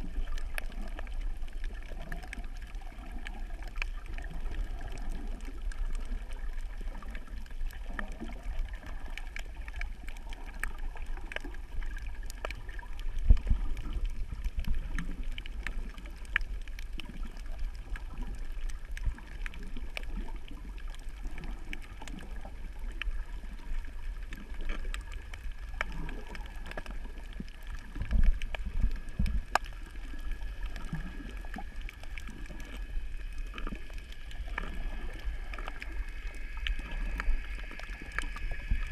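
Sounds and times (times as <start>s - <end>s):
sharp underwater clicks and crackles: 0.0s - 38.9s
underwater water rumble: 0.0s - 38.9s.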